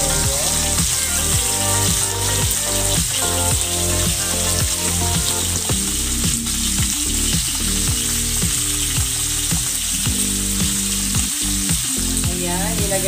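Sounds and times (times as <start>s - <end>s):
background music: 0.0s - 13.0s
fish sizzling in hot oil: 0.0s - 13.0s.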